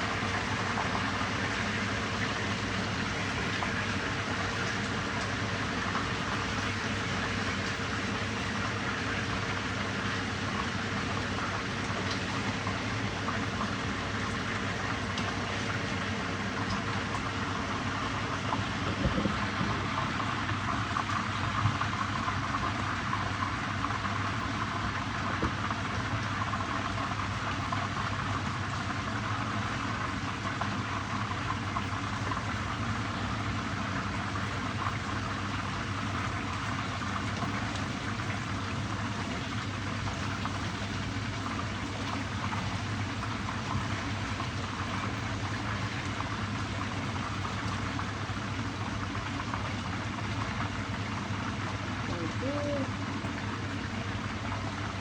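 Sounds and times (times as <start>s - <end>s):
fish sizzling in hot oil: 0.0s - 55.0s.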